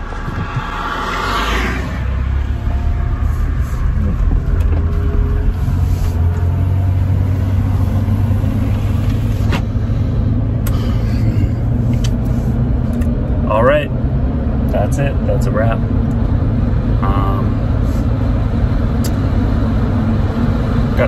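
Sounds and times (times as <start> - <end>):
engine and road noise in car cabin: 0.0 - 21.0.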